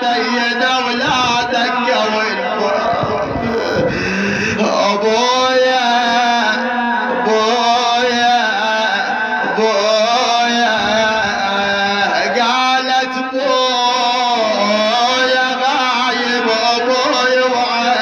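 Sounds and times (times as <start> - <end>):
man chanting mournfully: 0.0 - 18.0.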